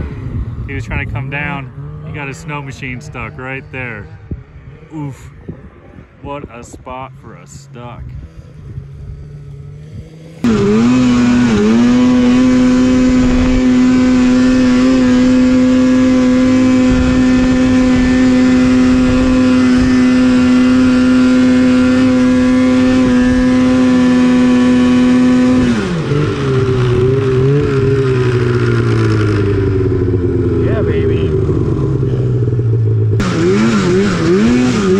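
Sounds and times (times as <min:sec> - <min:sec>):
snowmobile engine revving high: 0:00.0 - 0:05.5, 0:06.3 - 0:34.9.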